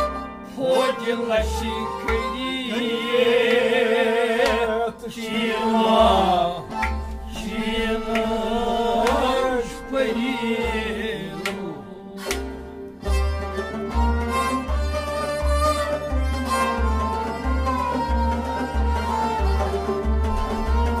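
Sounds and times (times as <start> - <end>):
bowed string instrument: 0.0 - 21.0
harmonium: 0.0 - 21.0.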